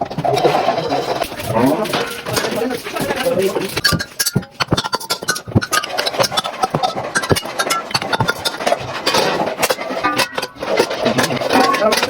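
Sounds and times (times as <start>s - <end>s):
metal clicks and knocks: 1.2s - 12.0s.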